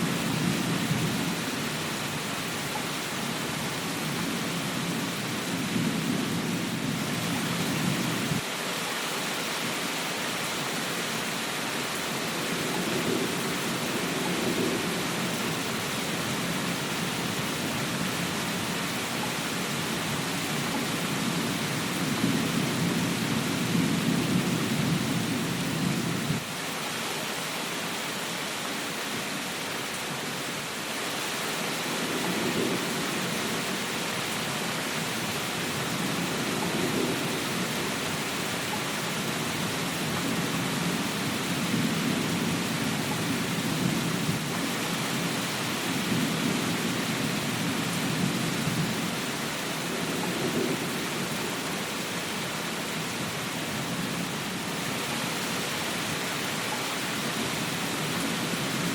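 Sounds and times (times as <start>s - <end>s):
rain hiss: 0.0s - 58.9s.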